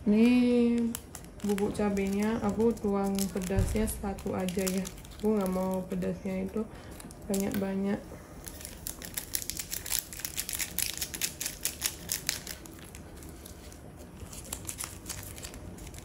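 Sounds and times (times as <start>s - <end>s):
foil sachet crinkling: 0.0s - 16.0s.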